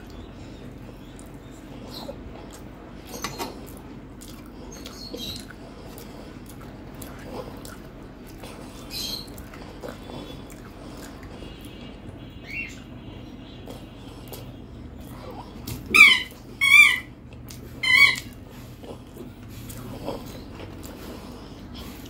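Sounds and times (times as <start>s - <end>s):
chewing and mouth noises: 0.0s - 12.9s, 13.5s - 22.0s.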